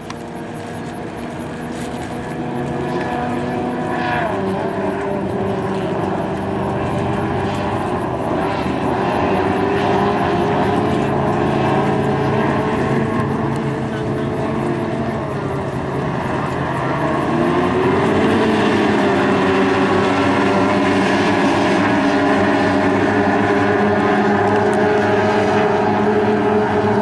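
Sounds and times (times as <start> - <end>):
racing boat engine: 0.0 - 27.0.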